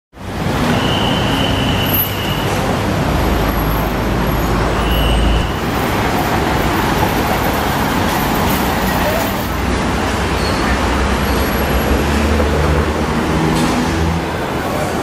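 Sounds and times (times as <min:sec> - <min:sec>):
road traffic: 0:00.1 - 0:15.0.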